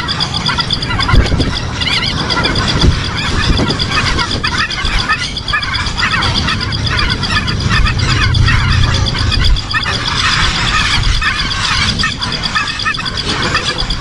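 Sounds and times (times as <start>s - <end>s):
birds chirping: 0.0s - 14.0s
low rumble: 0.0s - 14.0s
pulsing high-pitched whine: 0.0s - 14.0s.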